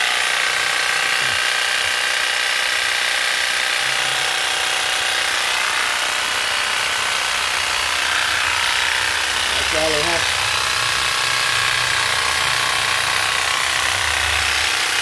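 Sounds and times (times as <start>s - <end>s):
electric hedge trimmer buzzing: 0.0s - 15.0s.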